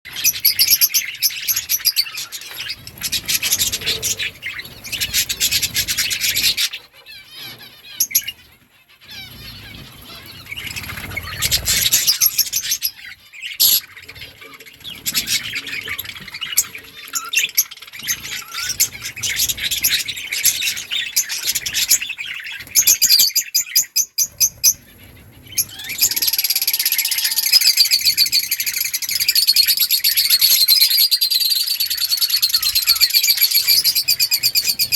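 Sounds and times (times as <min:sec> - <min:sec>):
budgerigars chirping and warbling: 0:00.1 - 0:34.9.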